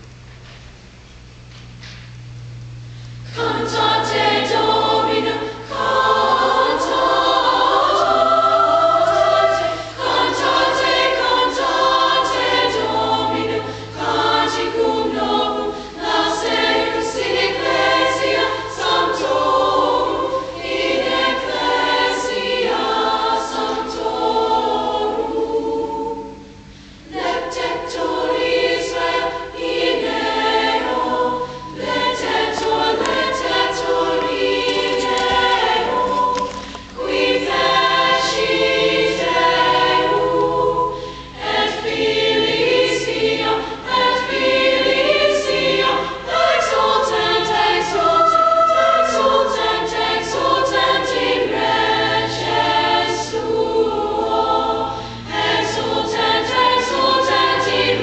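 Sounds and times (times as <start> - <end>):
girls choir singing: 3.3 - 58.0.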